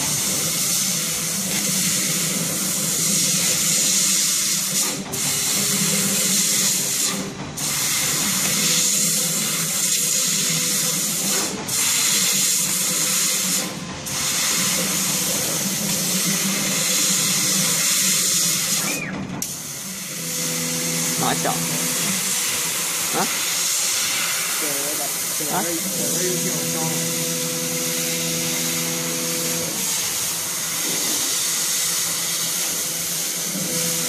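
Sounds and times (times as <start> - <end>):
laser cutter hissing: 0.0 - 34.0.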